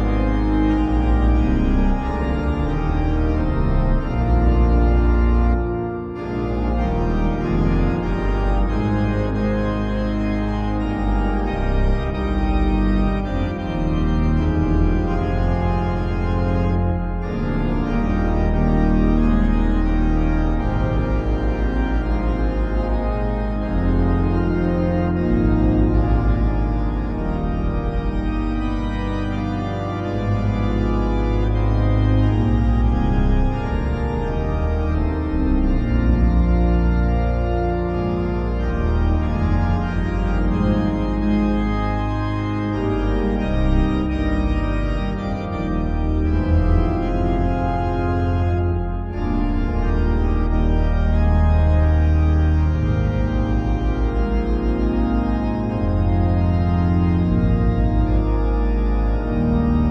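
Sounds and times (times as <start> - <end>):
organ music with deep bass: 0.0 - 59.9.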